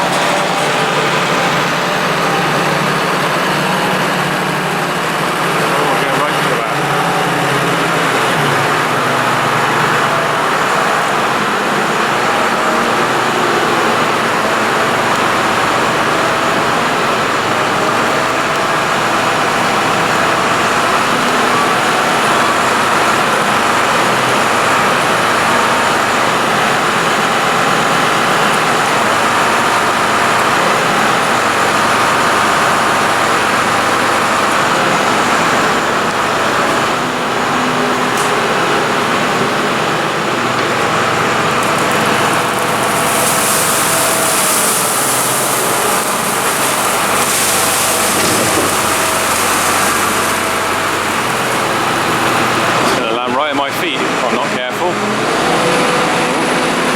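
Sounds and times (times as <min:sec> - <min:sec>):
tractor engines running loudly: 0:00.0 - 0:56.9.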